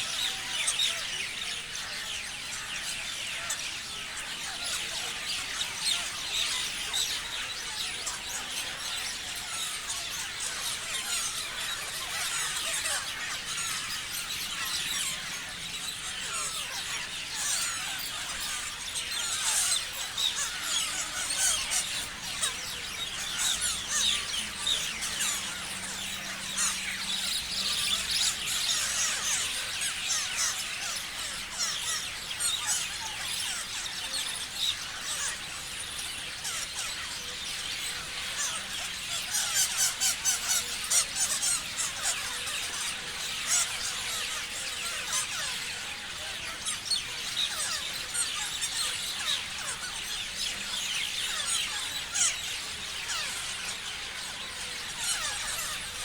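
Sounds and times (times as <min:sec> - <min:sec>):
parrots chirping and screeching: 0:00.0 - 0:56.0.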